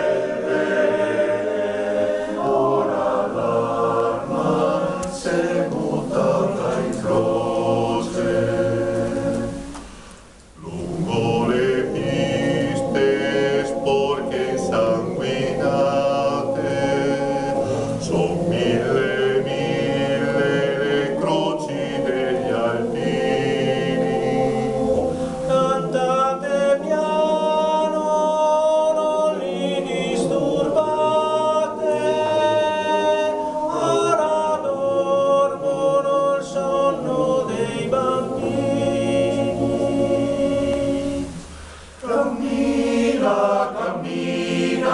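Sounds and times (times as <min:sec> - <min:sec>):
male choir singing a cappella: 0:00.0 - 0:10.0, 0:10.6 - 0:44.9.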